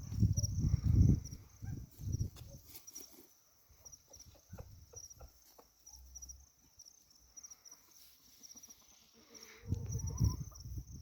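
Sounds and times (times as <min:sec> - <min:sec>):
faint cricket chirping: 0:00.0 - 0:11.0.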